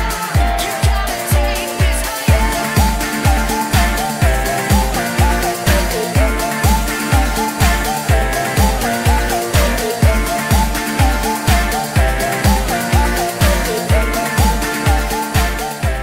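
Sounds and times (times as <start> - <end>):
deep kick drum: 0.0 - 16.0
music melody line: 0.0 - 16.0.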